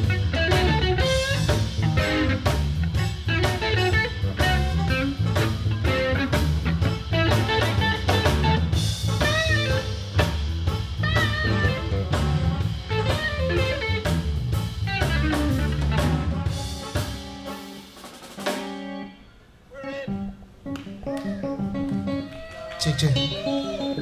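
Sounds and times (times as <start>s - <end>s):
blues band playing live: 0.0s - 24.0s
electric guitar lead: 0.0s - 24.0s.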